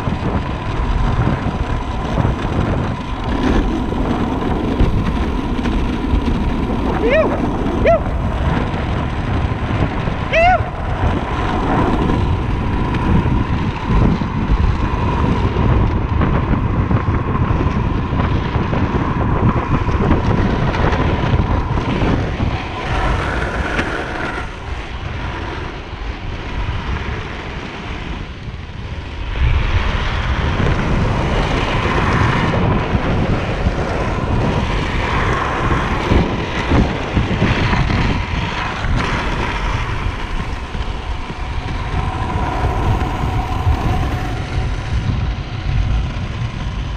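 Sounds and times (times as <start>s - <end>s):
board wheels rolling on asphalt: 0.0s - 46.9s
wind on microphone: 0.0s - 46.9s.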